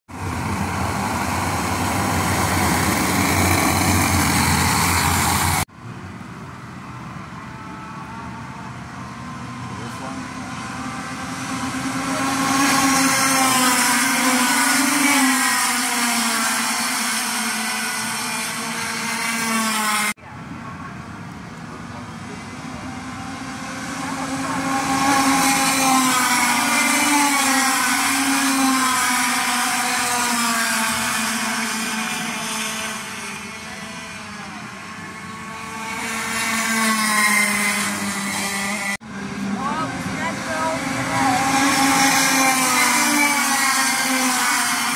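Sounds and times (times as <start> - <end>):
go-kart engines buzzing past: 0.1 - 44.9.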